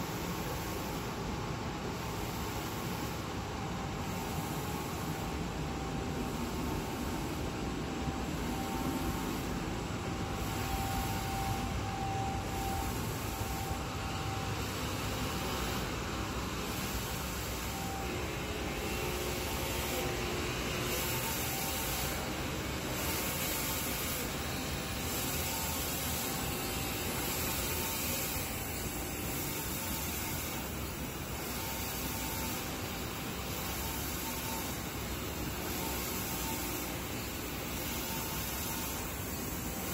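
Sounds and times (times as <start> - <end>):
faint machine whine: 0.0 - 39.9
paper feeding hiss: 0.0 - 39.9
printer machine running: 0.0 - 39.9.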